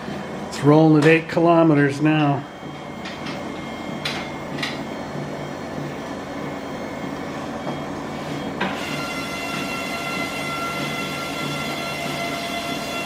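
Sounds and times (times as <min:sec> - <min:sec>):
treadmill belt pulse: 0:00.0 - 0:13.0
treadmill motor hum: 0:00.0 - 0:13.0
motor whine: 0:01.6 - 0:13.0.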